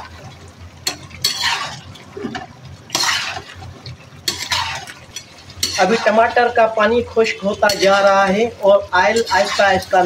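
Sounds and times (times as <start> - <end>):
metal skimmer scraping thick gravy: 0.8 - 10.0.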